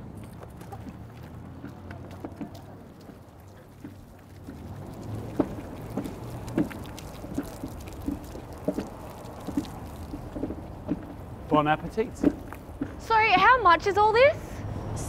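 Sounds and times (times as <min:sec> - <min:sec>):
liquid sloshing and splashing: 0:00.0 - 0:13.4.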